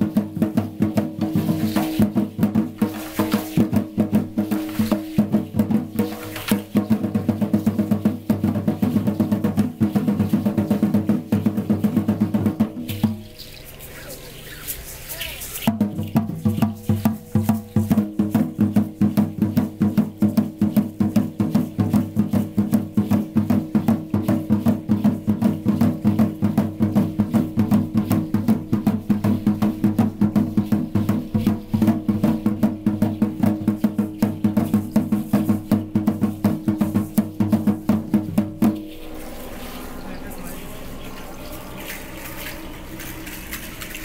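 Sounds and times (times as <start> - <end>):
fast drumming on upright drums: 0.0 - 13.4, 15.2 - 44.0.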